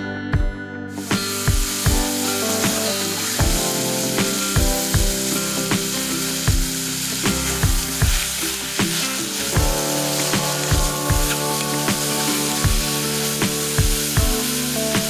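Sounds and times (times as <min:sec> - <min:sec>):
background music with beat: 0:00.1 - 0:15.0
vegetables sizzling in a pan: 0:01.0 - 0:15.0.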